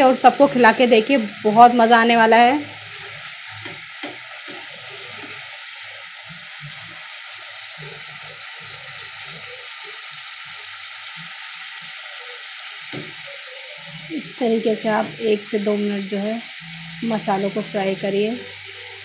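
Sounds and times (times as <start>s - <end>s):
spice paste sizzling in oil: 0.0s - 19.0s.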